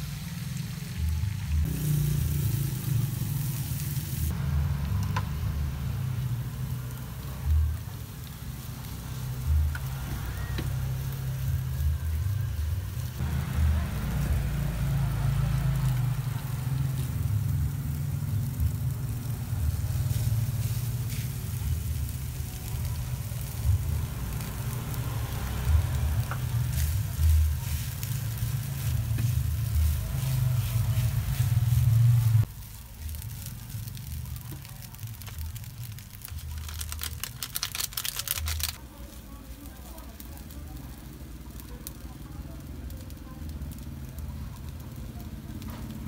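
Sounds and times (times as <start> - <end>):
food sizzling in a pan: 0.0 - 45.5
low rumble: 0.1 - 38.8.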